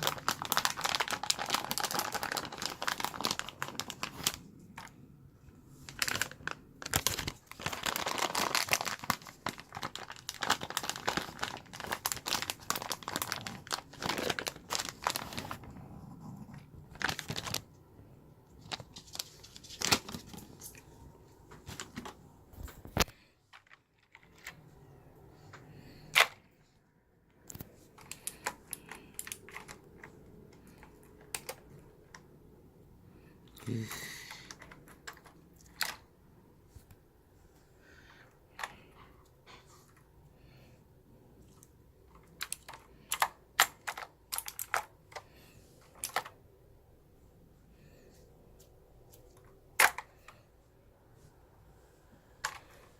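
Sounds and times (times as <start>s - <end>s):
crinkling and crackling handling: 0.0s - 32.4s, 33.1s - 40.7s, 41.3s - 46.5s.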